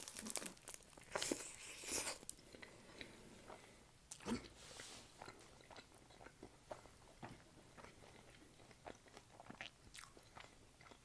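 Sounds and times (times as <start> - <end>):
biting and chewing food: 0.0 - 4.6, 5.2 - 11.0.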